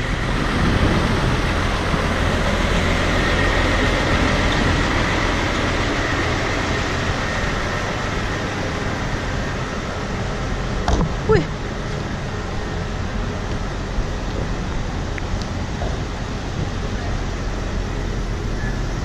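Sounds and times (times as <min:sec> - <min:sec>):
vehicle running rumble: 0:00.0 - 0:19.0.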